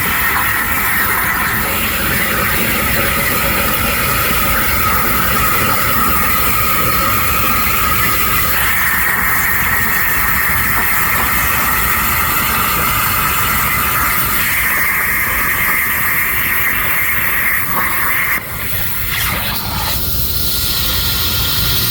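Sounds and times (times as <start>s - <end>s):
plasma torch cutting steel: 0.0s - 21.9s.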